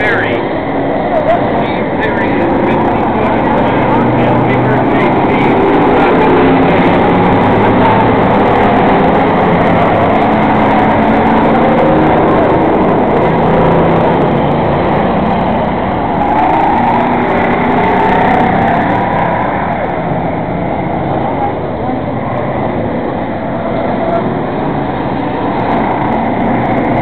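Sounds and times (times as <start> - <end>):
race car engines passing: 0.0 - 27.0.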